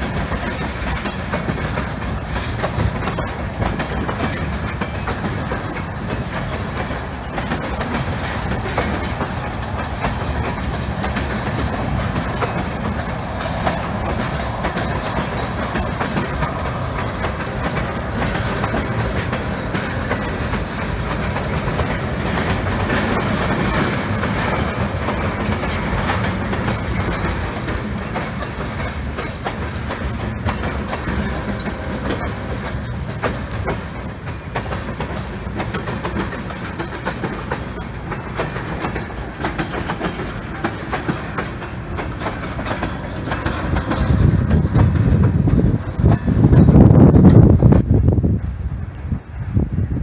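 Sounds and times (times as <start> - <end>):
train wheels clattering over rails: 0.0 - 50.0.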